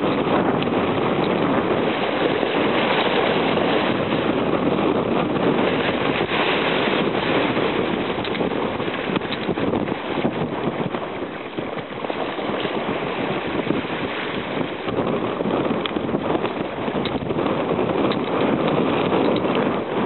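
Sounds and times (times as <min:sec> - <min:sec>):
sea waves washing over rocks: 0:00.0 - 0:20.0.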